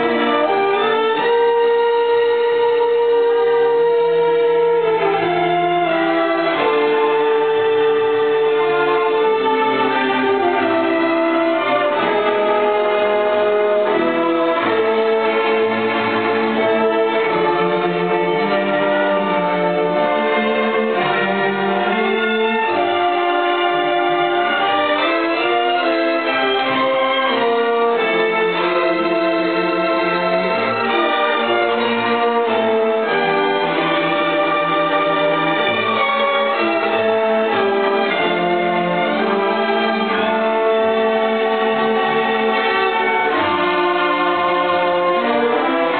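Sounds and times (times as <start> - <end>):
string orchestra playing: 0.0 - 45.9.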